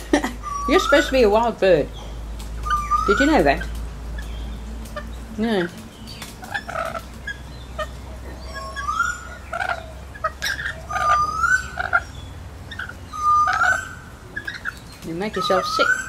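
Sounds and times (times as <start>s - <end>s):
parrots squawking and chattering: 0.0s - 16.0s
rising whistled bird calls: 0.4s - 4.6s, 6.0s - 16.0s.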